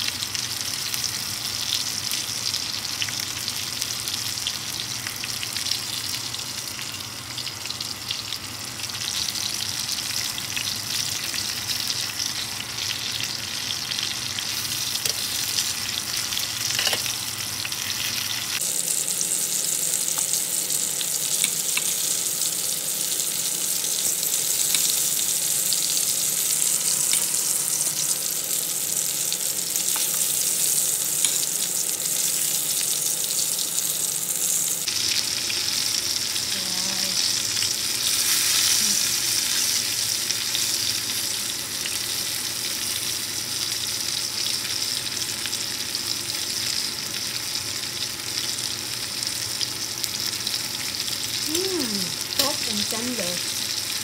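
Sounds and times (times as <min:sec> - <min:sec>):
chicken frying in hot oil: 0:00.0 - 0:54.0.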